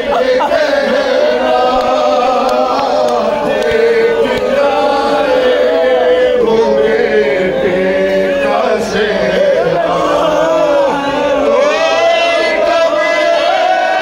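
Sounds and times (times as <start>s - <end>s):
man singing a lament: 0.0s - 14.0s
mourners chanting: 0.0s - 14.0s.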